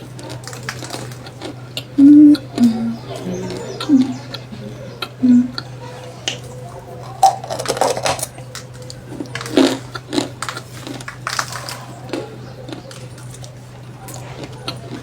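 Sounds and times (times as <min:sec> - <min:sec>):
crisp food crunching: 0:00.0 - 0:15.0
steady low hum: 0:00.0 - 0:15.0.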